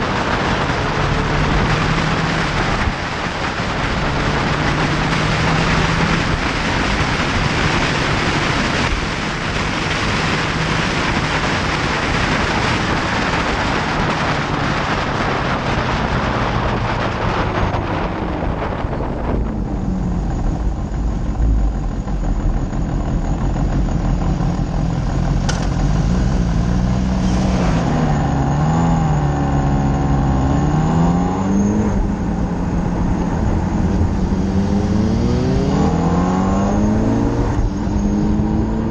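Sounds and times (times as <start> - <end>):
heavy wind rush: 0.0 - 38.9
motorcycle engine: 0.0 - 38.9.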